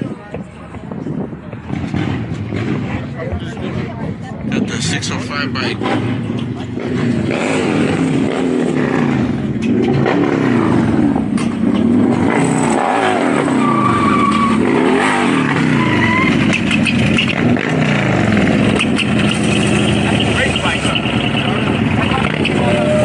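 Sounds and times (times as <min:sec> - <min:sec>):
mini bike engines revving: 0:01.7 - 0:23.0.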